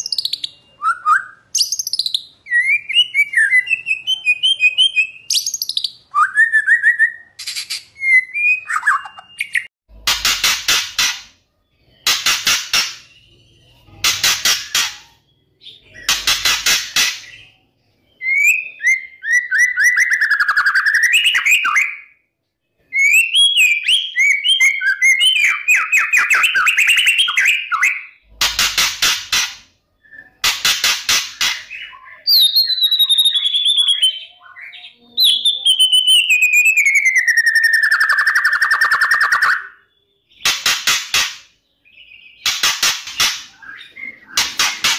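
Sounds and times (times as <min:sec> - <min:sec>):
bird singing with rattles and trills: 0:00.0 - 0:44.9.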